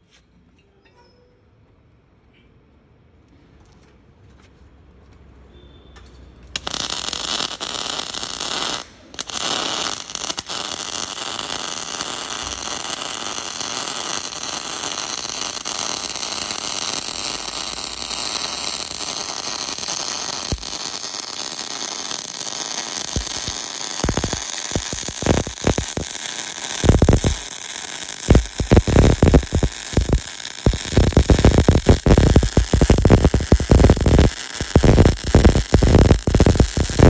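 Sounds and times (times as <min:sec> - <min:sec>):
welding arc crackling hiss: 0:06.6 - 0:37.0.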